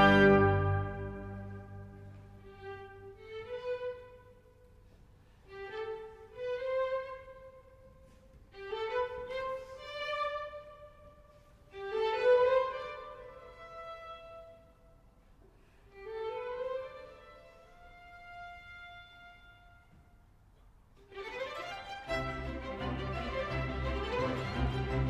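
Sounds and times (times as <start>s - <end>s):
solo violin melody: 0.0s - 4.5s, 5.4s - 14.8s, 15.9s - 20.0s, 21.0s - 25.0s.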